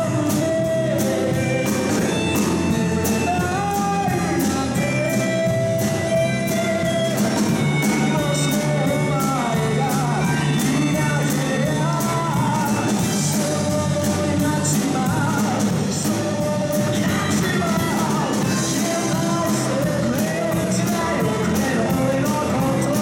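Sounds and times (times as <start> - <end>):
live pop-rock band: 0.0 - 23.0
man singing: 0.0 - 23.0.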